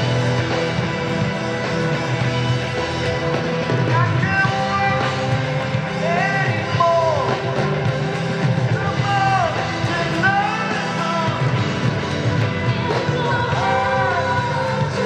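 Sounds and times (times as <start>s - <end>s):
live rock band: 0.0s - 15.0s.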